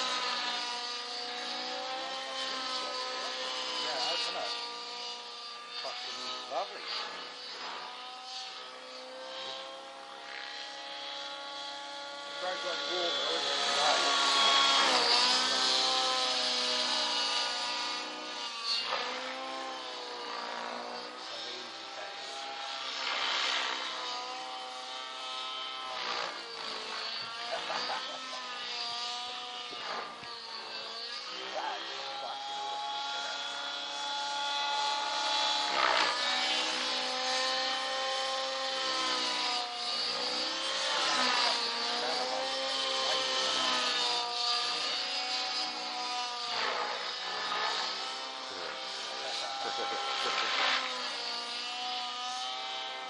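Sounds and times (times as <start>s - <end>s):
model helicopter rotor whine: 0.0s - 53.0s.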